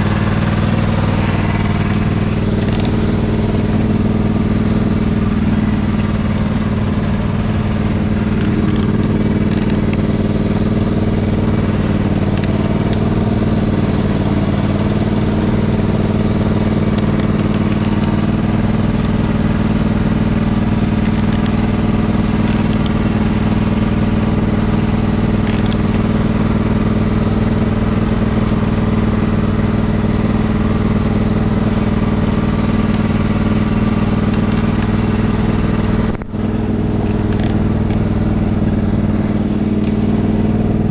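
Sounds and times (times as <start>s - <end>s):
riding lawn mower engine running: 0.0s - 40.9s.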